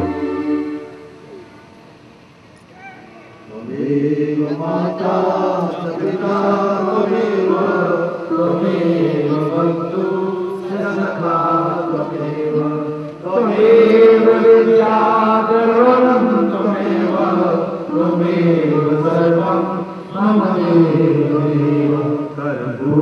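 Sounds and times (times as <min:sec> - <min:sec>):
voices chanting a hymn in unison: 0:00.0 - 0:01.8, 0:02.8 - 0:23.0.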